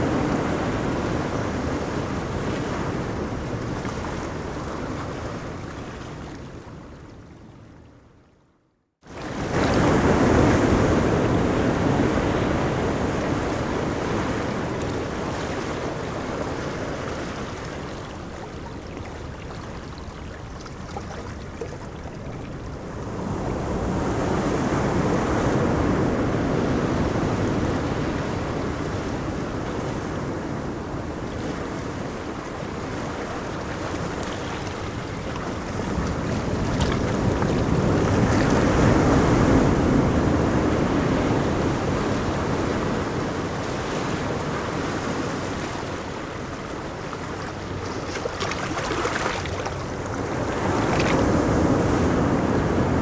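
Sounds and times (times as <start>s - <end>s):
ocean waves breaking on beach: 0.0s - 7.8s, 9.0s - 53.0s.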